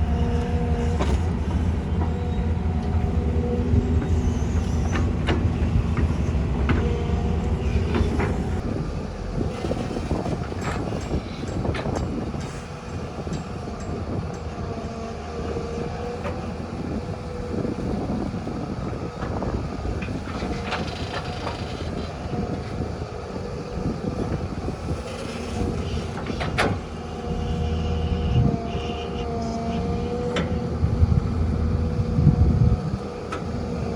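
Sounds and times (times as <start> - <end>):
heavy engine whining: 0.0 - 33.9.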